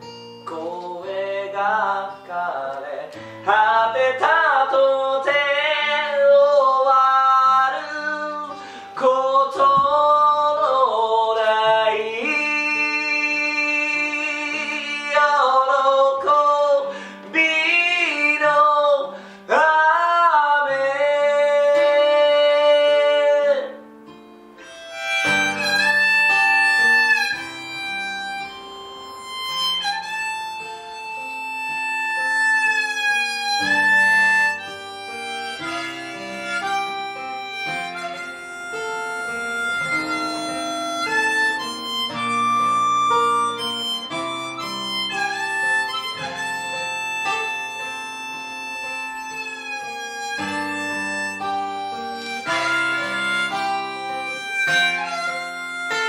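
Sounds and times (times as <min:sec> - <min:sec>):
guitar chords: 0:00.0 - 0:56.0
harmonica melody: 0:00.0 - 0:56.0.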